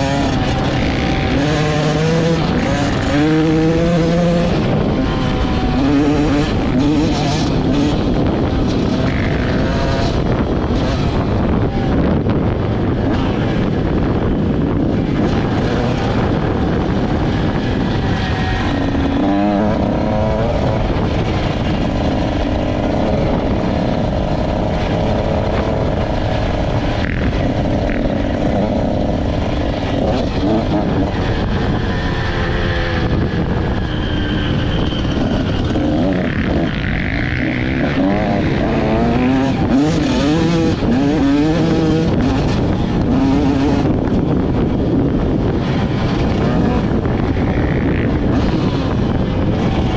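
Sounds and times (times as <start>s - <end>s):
two-stroke engine revving: 0.0s - 12.0s, 12.6s - 49.9s
loud wind and riding noise: 0.0s - 49.9s.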